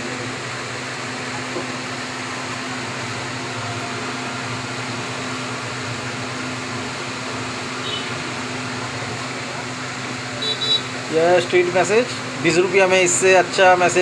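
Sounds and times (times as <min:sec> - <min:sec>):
mechanical hum with hiss: 0:00.0 - 0:14.0.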